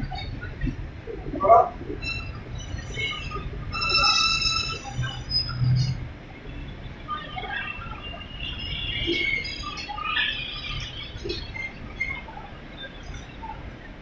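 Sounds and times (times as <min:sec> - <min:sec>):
carriages rumbling past: 0:00.0 - 0:14.0
wheels squeaking on rails: 0:01.8 - 0:13.8.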